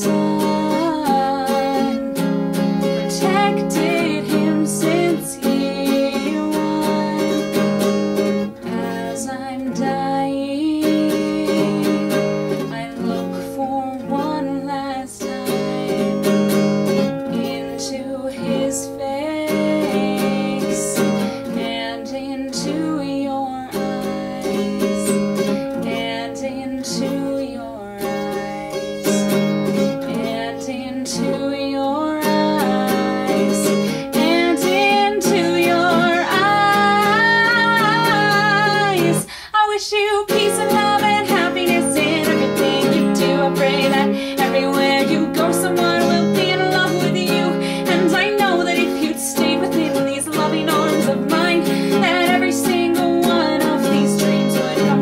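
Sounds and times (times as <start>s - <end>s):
acoustic guitar strumming: 0.0s - 55.0s
woman singing: 0.0s - 55.0s.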